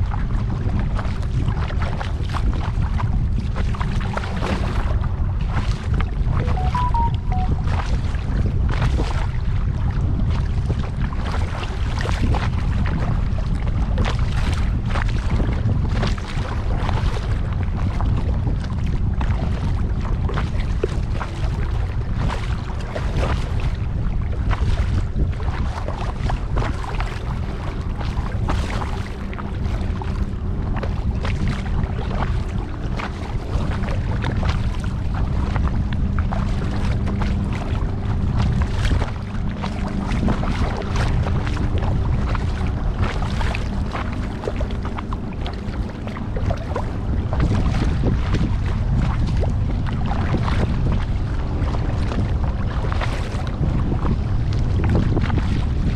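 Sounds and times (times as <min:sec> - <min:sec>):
paddle splashing water: 0:00.0 - 0:55.9
steady low rumble: 0:00.0 - 0:55.9
water lapping at hull: 0:00.0 - 0:55.9
wind buffeting microphone: 0:00.0 - 0:55.9.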